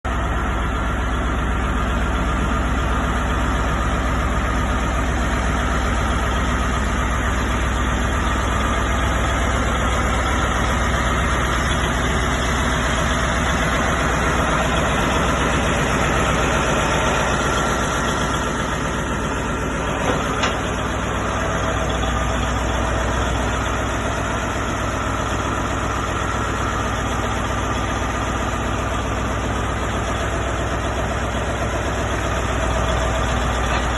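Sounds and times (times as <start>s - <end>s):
grinder engine idling: 0.1s - 33.9s.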